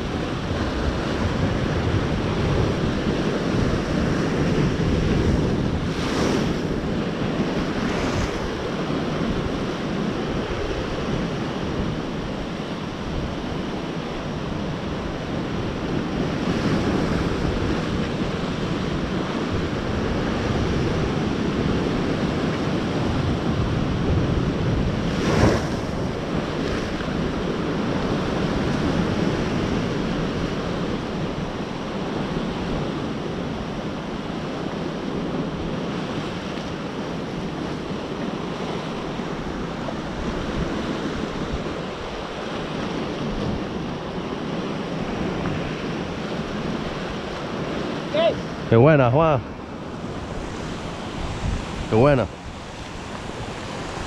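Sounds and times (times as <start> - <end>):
waves breaking over rocks: 0.0 - 54.0
wind buffeting microphone: 0.0 - 54.0.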